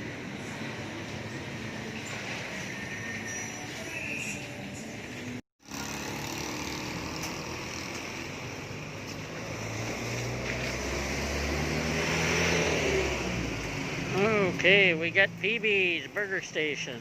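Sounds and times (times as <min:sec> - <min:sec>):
passing motor vehicles: 0:00.0 - 0:17.0.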